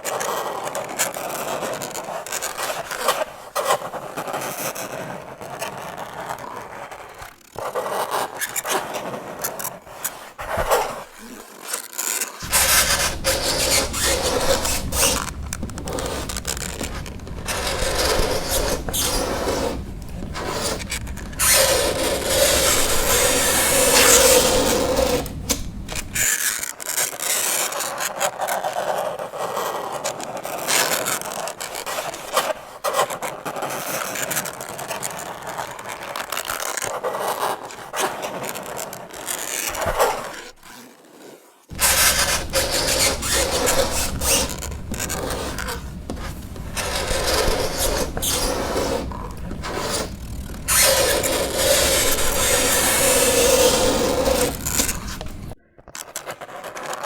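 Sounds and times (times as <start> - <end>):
fingernails scratching chalkboard: 0.3 - 11.5, 12.4 - 26.3, 28.4 - 57.0.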